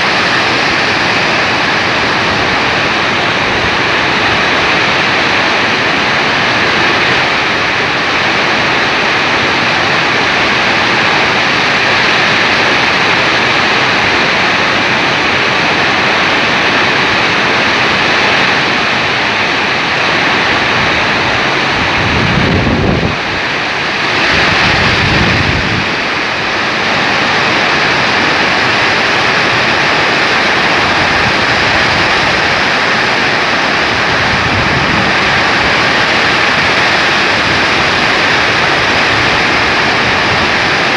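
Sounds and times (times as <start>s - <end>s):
heavy rain pouring: 0.0s - 40.9s
wind buffeting microphone: 0.0s - 40.9s.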